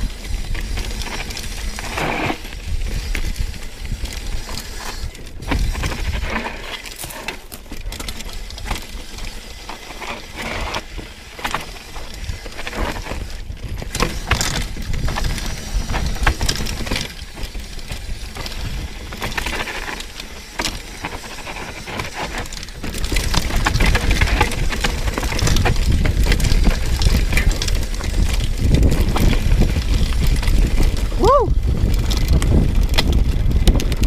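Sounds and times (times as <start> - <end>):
wind rumble on microphone: 0.0 - 6.8, 11.9 - 20.0, 20.9 - 34.0
bike rattling over bumps: 0.0 - 34.0
tyres crunching over gravel: 0.0 - 34.0.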